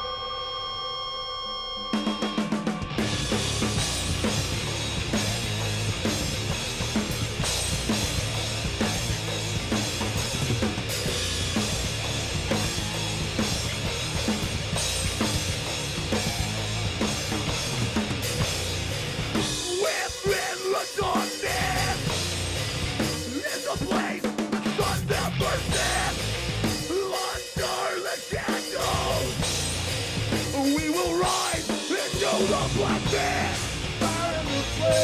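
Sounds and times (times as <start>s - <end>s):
guitar line: 0.0s - 23.7s, 24.7s - 27.6s, 28.2s - 35.0s
metal band playing live: 1.9s - 35.0s.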